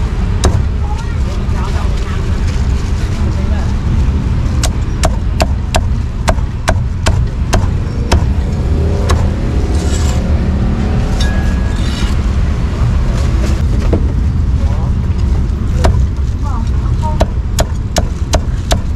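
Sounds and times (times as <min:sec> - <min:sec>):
street traffic rumble: 0:00.0 - 0:18.9.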